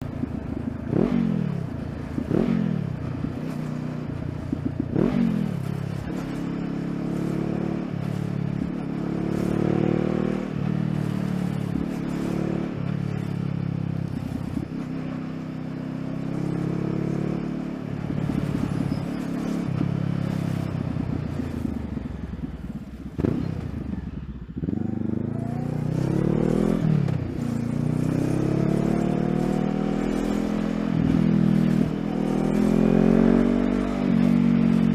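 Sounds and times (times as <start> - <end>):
motorcycle engine shifting gears: 0.0 - 34.9.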